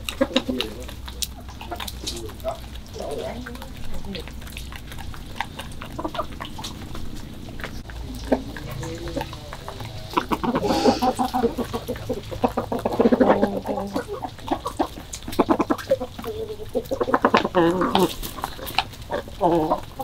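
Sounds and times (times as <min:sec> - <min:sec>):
beaks tapping concrete: 0:00.0 - 0:20.0
chickens clucking: 0:00.0 - 0:20.0.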